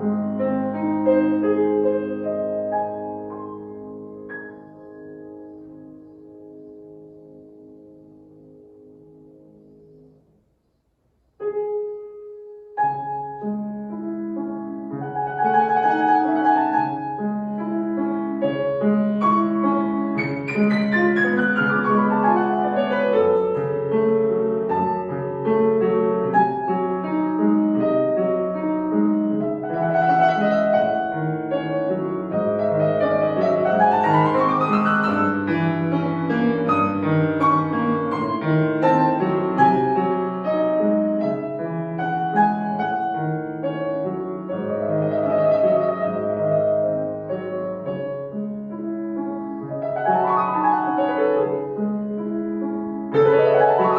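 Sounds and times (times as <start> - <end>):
solo piano classical piece: 0.0 - 53.9.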